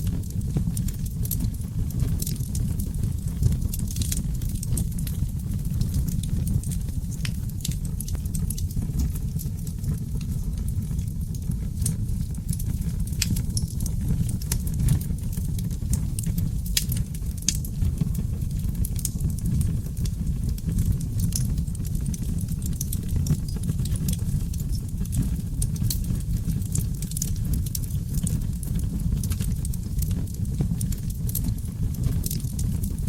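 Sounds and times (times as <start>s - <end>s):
fire flames roaring: 0.0s - 33.0s
logs crackling and popping: 0.0s - 33.0s.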